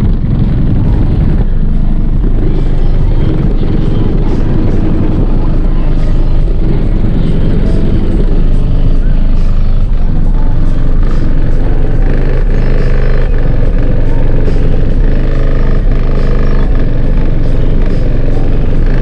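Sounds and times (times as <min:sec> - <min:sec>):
loud bass-heavy music from subwoofers: 0:00.0 - 0:19.0.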